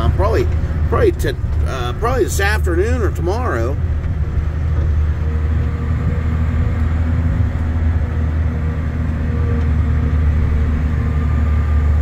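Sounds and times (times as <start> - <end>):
truck diesel engine drone: 0.0 - 12.0.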